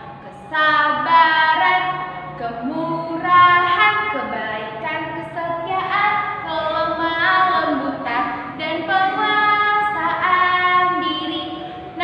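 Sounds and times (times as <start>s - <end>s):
woman singing alone: 0.0s - 12.0s.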